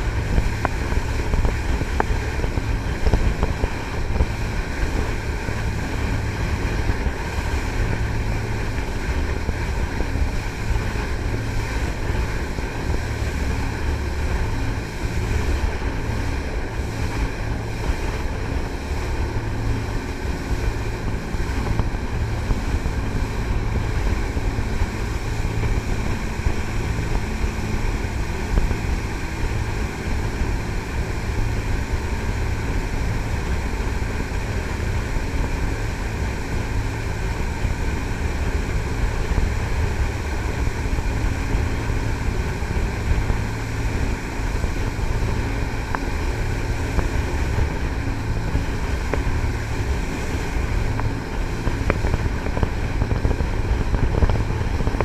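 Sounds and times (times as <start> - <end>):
boat engine drone: 0.0 - 55.0
rushing water: 0.0 - 55.0
wind noise: 0.0 - 55.0.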